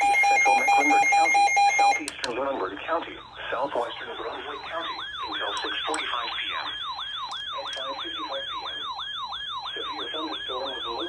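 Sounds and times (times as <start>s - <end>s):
electronic siren yelping: 0.0s - 2.2s, 3.0s - 11.0s.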